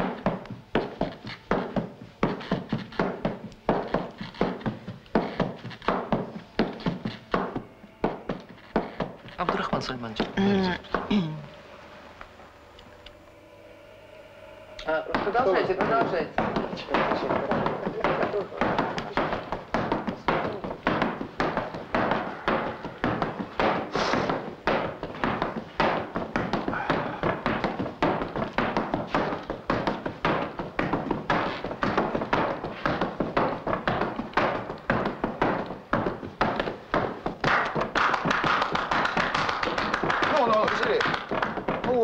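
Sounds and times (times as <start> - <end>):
tap dancing shoes on floor: 0.0 - 11.2, 15.2 - 42.0.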